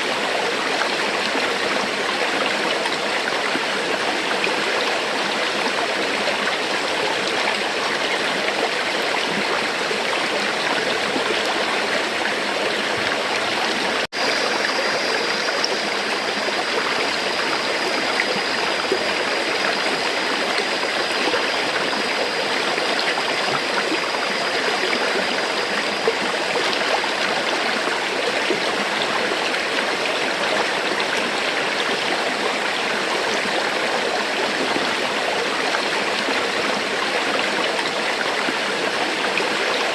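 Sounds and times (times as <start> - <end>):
river water rushing: 0.4 - 39.9.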